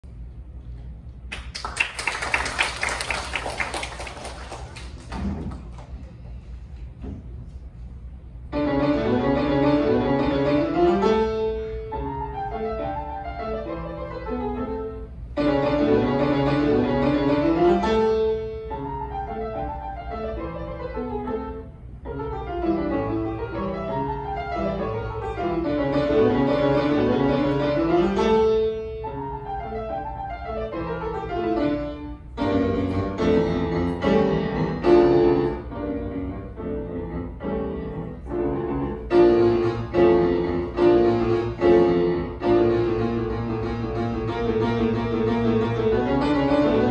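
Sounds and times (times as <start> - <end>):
grand piano playing: 8.3 - 46.9.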